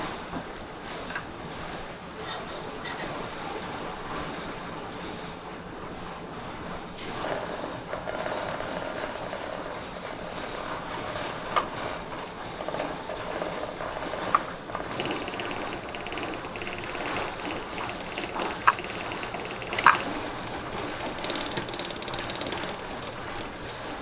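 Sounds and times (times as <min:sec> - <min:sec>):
room noise: 0:00.0 - 0:24.0.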